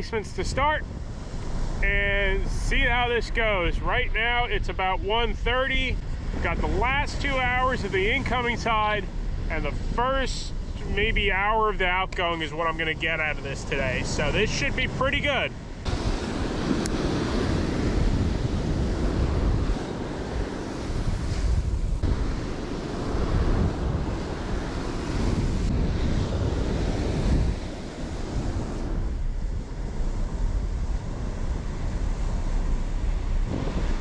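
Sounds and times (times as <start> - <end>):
ocean surf breaking: 0.0 - 34.0
wind buffeting microphone: 0.0 - 34.0.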